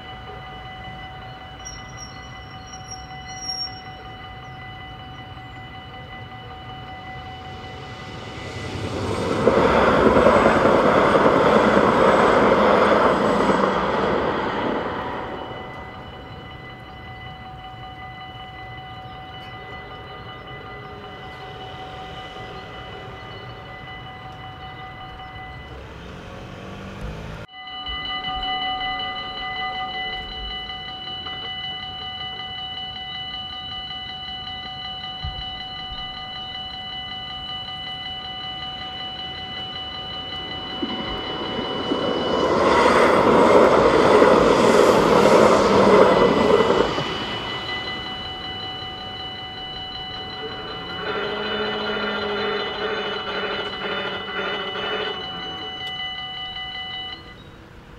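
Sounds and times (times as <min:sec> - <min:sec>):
level-crossing warning bell ringing: 0:00.0 - 0:57.9
tram rumbling past: 0:00.0 - 0:57.9.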